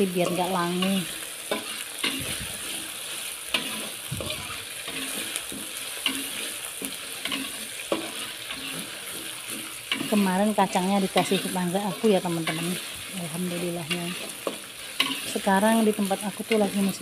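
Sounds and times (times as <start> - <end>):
metal spatula scraping wok: 0.0 - 17.0
paste sizzling in hot oil: 0.0 - 17.0.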